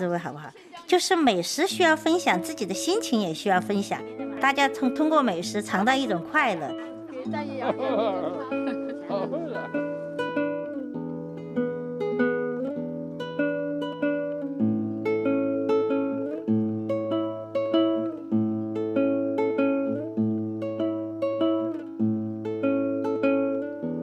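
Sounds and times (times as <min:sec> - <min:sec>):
acoustic guitar fingerpicking: 0:01.6 - 0:24.0.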